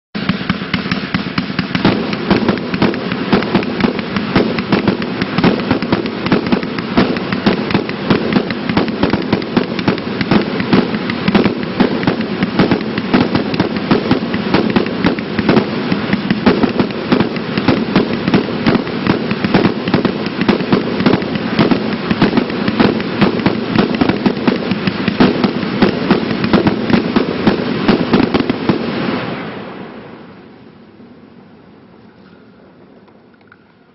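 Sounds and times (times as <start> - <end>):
firework barrage: 0.2 - 31.5.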